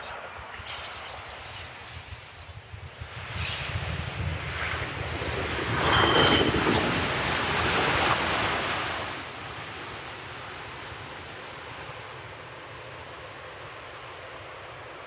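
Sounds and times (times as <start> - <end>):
jet landing roar: 0.0 - 15.0.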